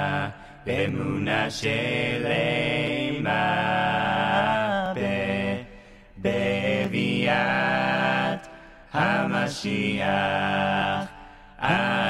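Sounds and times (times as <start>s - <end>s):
men singing a cappella harmony: 0.0s - 12.0s.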